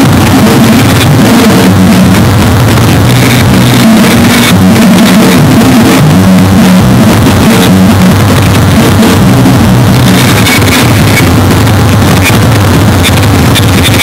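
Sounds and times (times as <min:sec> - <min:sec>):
distorted drum kit noise: 0:00.0 - 0:14.0
low droning pitches: 0:00.0 - 0:14.0.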